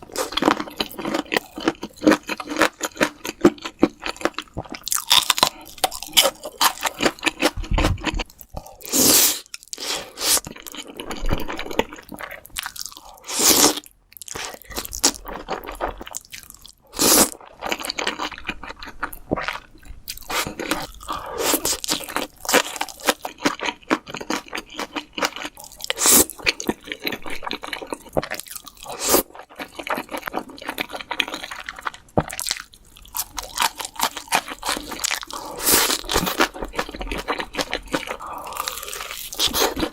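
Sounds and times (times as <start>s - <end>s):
fried chicken crunching and chewing: 0.0s - 39.9s.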